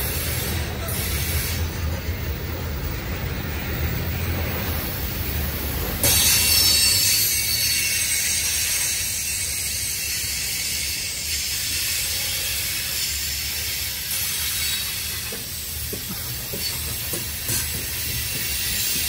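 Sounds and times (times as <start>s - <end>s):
freight train rumbling past: 0.0s - 19.0s
wheels squealing on rails: 0.0s - 19.0s.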